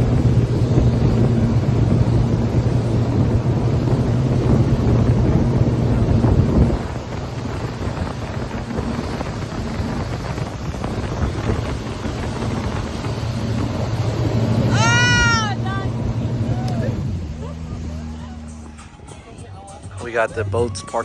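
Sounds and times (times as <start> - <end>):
wind buffeting microphone: 0.0 - 18.6
water rushing: 0.0 - 18.8
boat engine running: 0.0 - 19.2.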